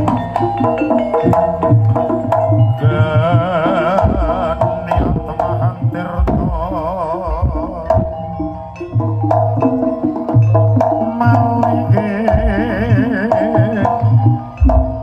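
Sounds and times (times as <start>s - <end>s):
hand drums: 0.0s - 15.0s
ringing metal percussion: 0.0s - 15.0s
wavering high melody: 0.0s - 15.0s.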